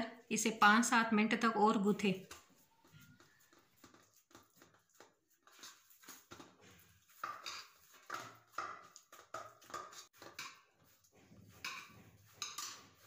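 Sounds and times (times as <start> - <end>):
dough squelching against metal plate: 1.8 - 13.0.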